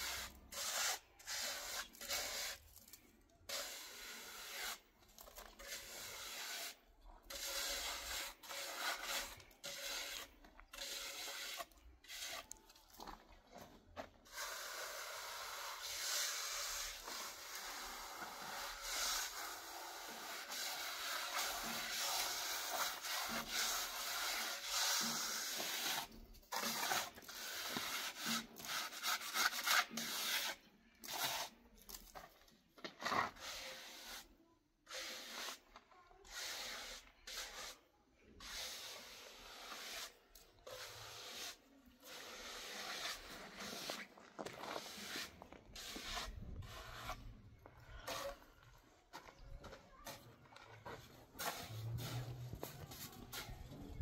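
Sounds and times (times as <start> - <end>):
scraping on gritty surface: 0.0 - 34.3, 38.4 - 54.0.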